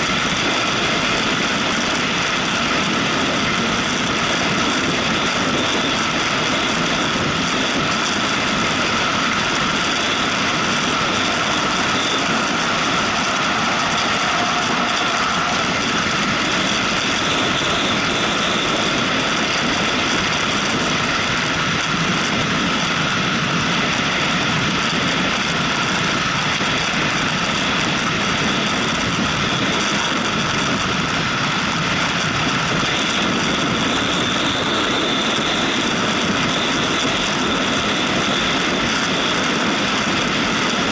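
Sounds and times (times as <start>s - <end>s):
motorcycle engine drone: 0.0s - 40.9s
rushing air: 0.0s - 40.9s.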